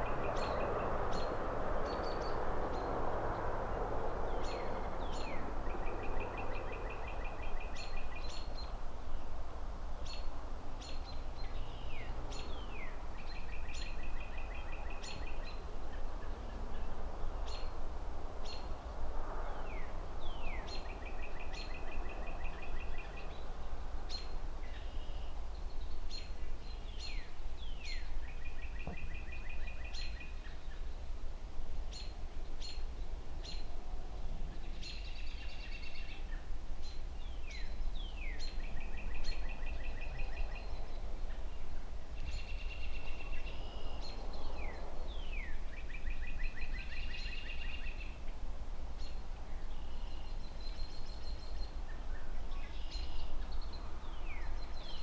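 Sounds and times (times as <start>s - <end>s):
distant city traffic hum: 0.0s - 55.0s.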